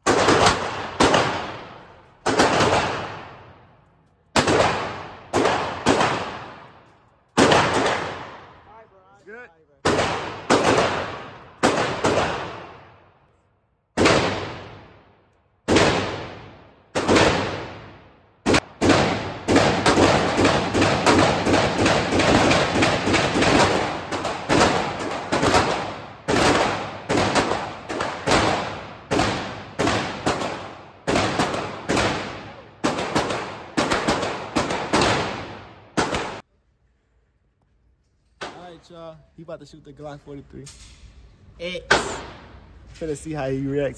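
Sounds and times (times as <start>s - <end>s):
gunshots echoing indoors: 0.0s - 8.9s, 9.8s - 36.4s, 38.4s - 38.9s.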